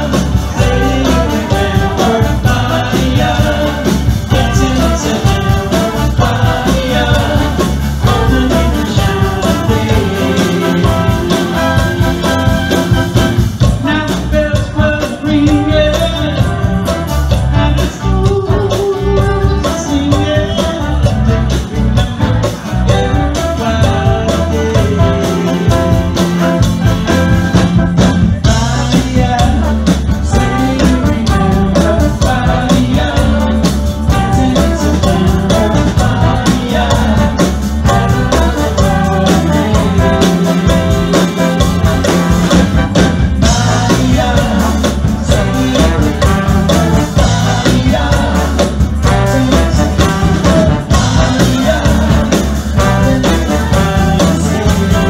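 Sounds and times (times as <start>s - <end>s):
congas: 0.0s - 55.0s
electric bass: 0.0s - 55.0s
horn section: 0.0s - 55.0s.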